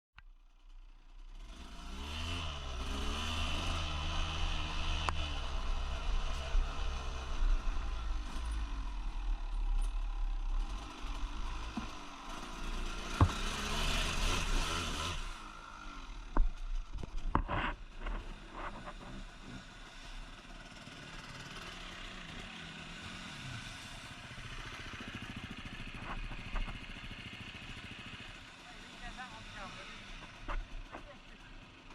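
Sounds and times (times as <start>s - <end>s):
two-stroke motorbike engine revving: 0.5s - 31.9s.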